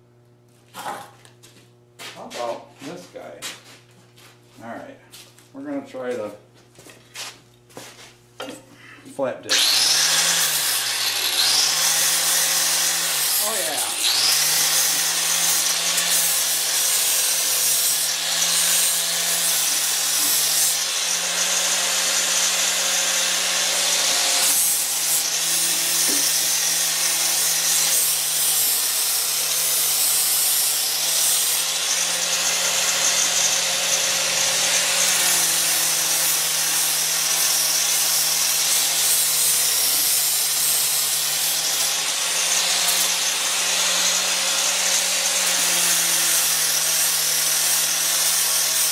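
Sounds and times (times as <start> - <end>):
angle grinder grinding steel: 9.5 - 48.9.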